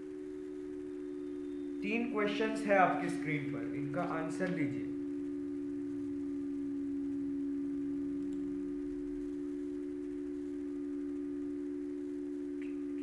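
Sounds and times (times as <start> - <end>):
two-tone steady hum: 0.0 - 13.0.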